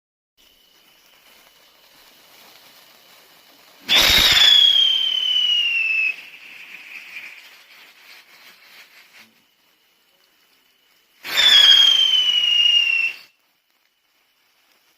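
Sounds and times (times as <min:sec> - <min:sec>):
firework hissing and whistling: 0:00.4 - 0:14.9
firework sputtering: 0:00.4 - 0:14.9.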